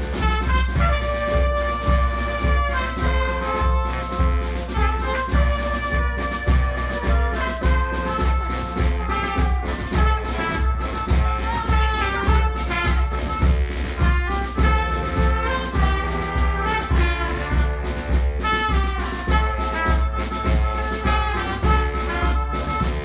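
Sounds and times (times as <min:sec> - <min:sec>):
brass street band playing: 0:00.0 - 0:23.0.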